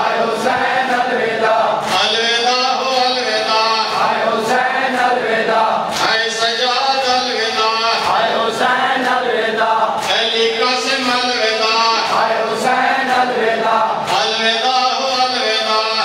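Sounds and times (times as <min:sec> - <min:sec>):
group of voices chanting: 0:00.0 - 0:06.4, 0:07.0 - 0:15.4
man chanting through microphone: 0:00.0 - 0:16.0.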